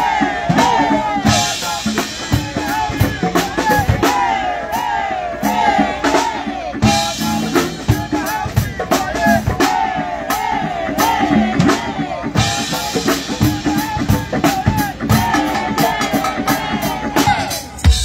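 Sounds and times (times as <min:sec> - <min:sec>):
drum beat: 0:00.0 - 0:18.0
live band through speakers: 0:00.0 - 0:18.0.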